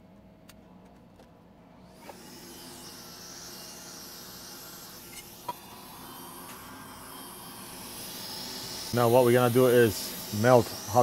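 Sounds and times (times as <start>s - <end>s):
hot air gun blowing with hiss: 1.8s - 11.0s.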